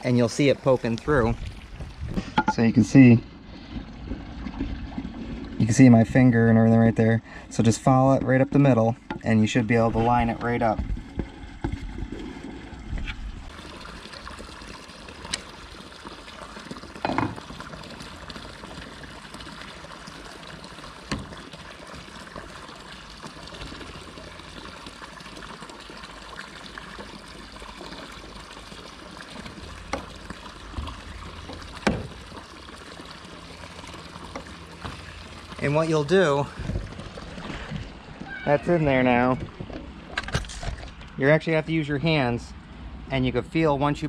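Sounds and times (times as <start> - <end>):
water trickling: 0.0 - 41.2.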